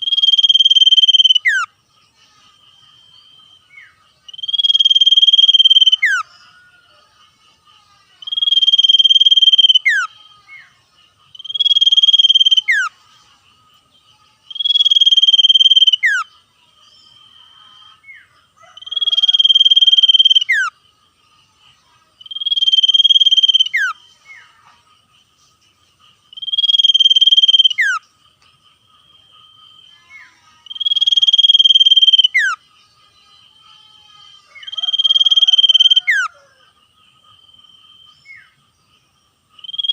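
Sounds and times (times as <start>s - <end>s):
bird singing buzzy trill: 0.0s - 39.9s.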